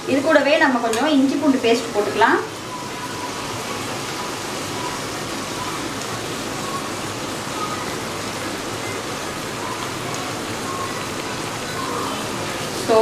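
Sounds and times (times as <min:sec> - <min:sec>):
onions and tomatoes sizzling in oil: 0:00.0 - 0:13.0.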